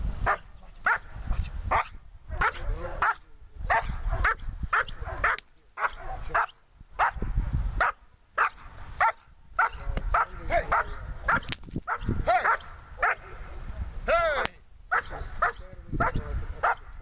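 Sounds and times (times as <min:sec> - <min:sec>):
dog barking fast: 0:00.3 - 0:01.1, 0:01.7 - 0:07.2, 0:07.8 - 0:13.2, 0:14.9 - 0:16.9.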